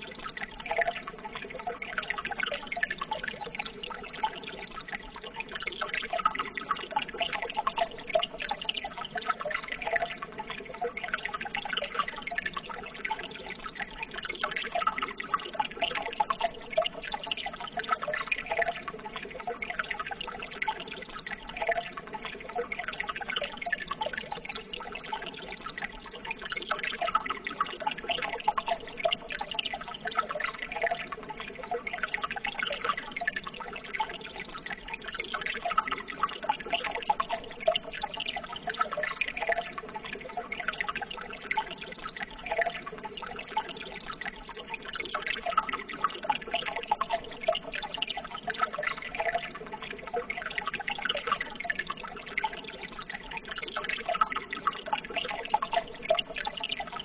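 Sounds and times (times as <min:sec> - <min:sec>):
water babbling and gurgling: 0:00.0 - 0:57.0.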